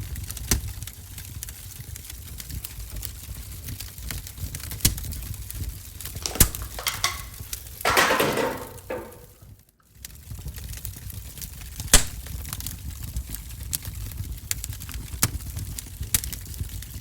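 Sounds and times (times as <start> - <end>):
wood stove fire crackling: 0.0 - 17.0.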